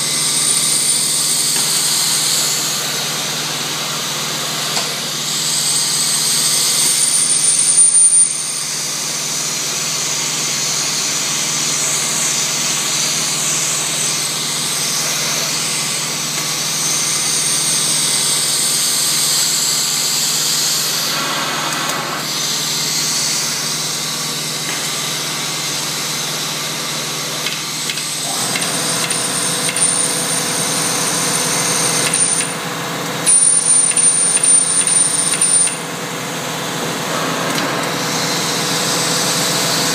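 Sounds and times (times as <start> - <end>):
vacuum pump hissing: 0.0 - 7.6, 8.3 - 32.8, 34.6 - 39.9.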